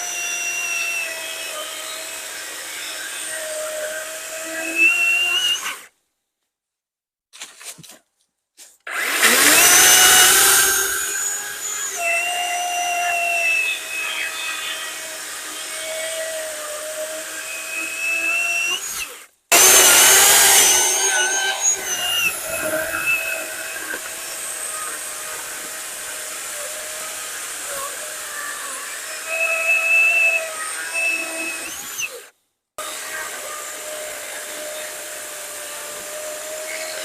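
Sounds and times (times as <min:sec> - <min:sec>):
electric chainsaw cutting log: 0:00.0 - 0:05.9, 0:08.8 - 0:37.0.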